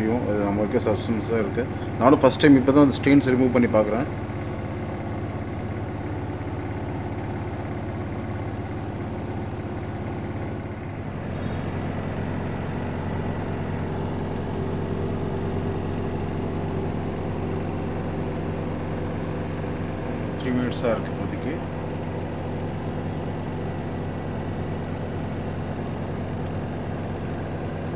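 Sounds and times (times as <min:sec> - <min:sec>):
washing machine spinning: 0:00.0 - 0:27.9.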